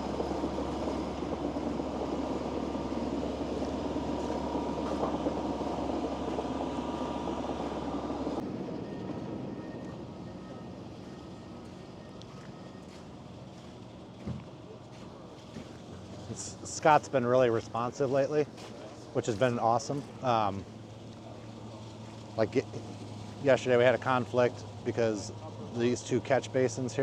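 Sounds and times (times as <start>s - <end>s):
rumbling noise with low hum: 0.0s - 27.0s.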